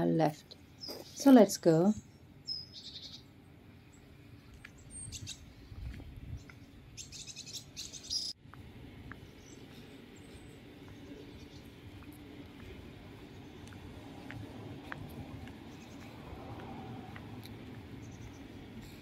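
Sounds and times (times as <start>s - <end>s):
small birds chirping: 0.5s - 8.4s, 9.1s - 16.2s, 17.1s - 19.0s
low steady rumble: 1.6s - 19.0s.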